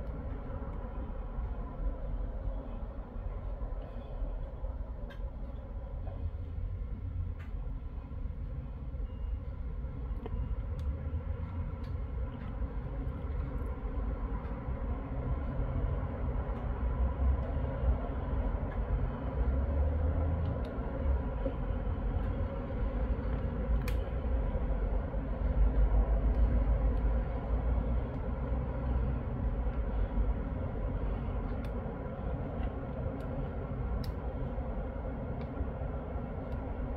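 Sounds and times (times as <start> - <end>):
road traffic rumble: 0.0 - 36.9.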